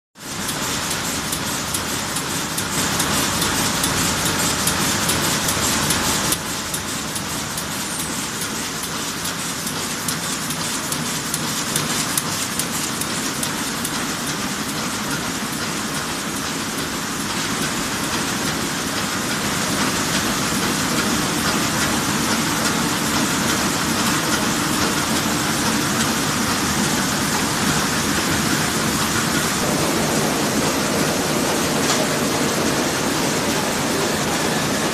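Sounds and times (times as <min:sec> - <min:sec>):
printing press clattering: 0:00.2 - 0:34.9.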